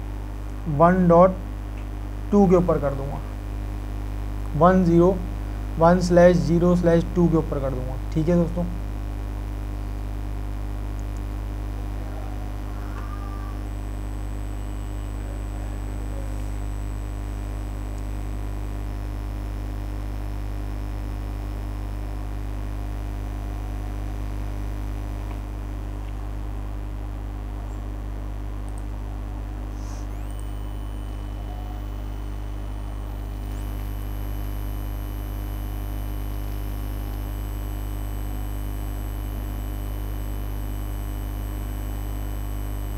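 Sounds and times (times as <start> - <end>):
electrical mains hum: 0.0 - 42.9.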